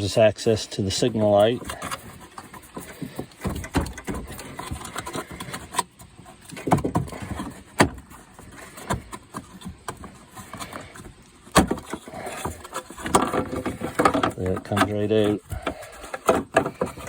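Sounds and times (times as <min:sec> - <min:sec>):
plastic clicks and knocks: 0:01.6 - 0:17.0.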